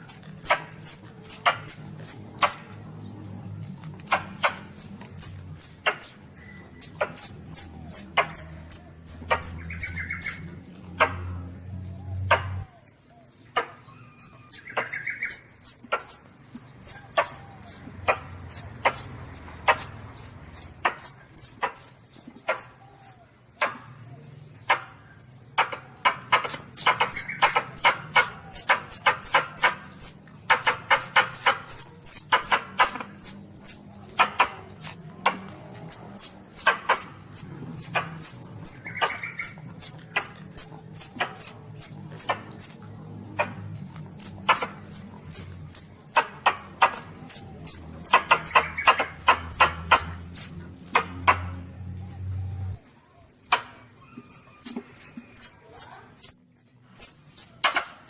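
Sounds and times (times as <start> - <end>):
baby civet squeaking: 0.0 - 2.8, 3.9 - 11.2, 13.9 - 23.2, 26.3 - 42.8, 43.4 - 51.4, 54.0 - 58.0.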